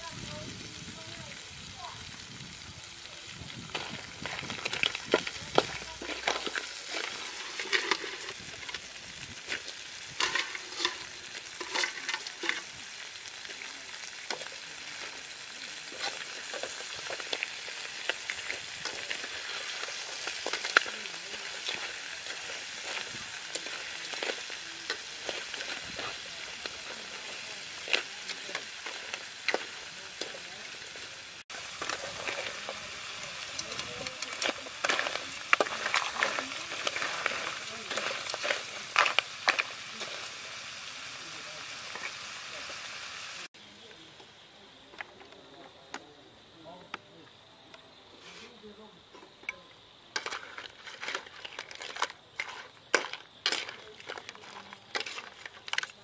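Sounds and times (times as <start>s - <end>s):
crabs sizzling in a wok: 0.0s - 45.2s, 48.2s - 56.0s.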